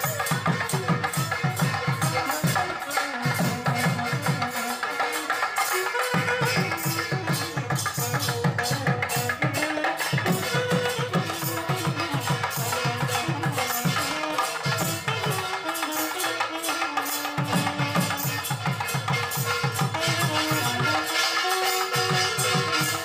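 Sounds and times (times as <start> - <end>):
fast drum beat: 0.0 - 23.0
rattling percussion: 0.0 - 23.0.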